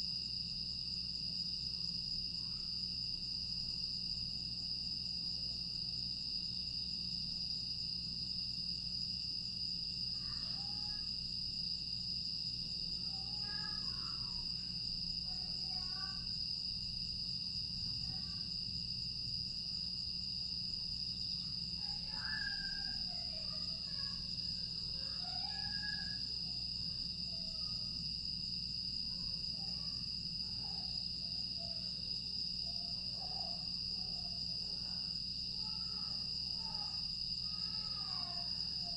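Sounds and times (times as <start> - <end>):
crickets trilling: 0.0 - 38.9
faint short insect calls: 7.3 - 38.9.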